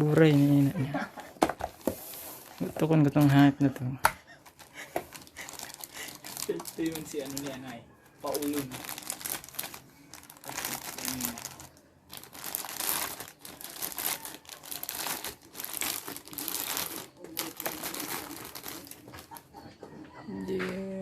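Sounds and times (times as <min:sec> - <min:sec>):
packaging crinkling and rustling: 0:01.4 - 0:03.5, 0:04.4 - 0:19.5.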